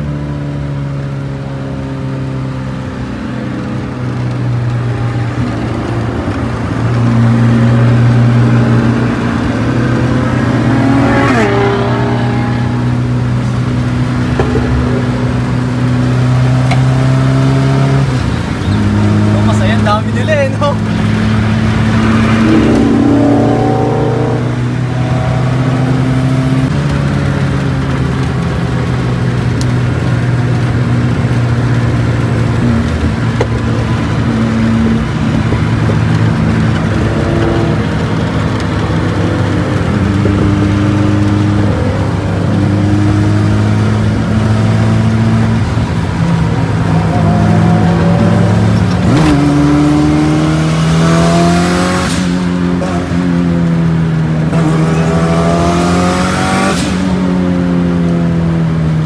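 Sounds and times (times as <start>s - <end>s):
car engine with gear changes: 0.0s - 59.0s
road and wind noise: 0.0s - 59.0s.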